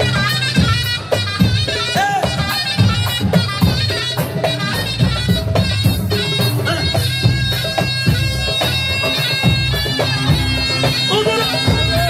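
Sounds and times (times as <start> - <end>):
reedy bagpipe-like wind melody: 0.0 - 12.0
steady drums: 0.0 - 12.0.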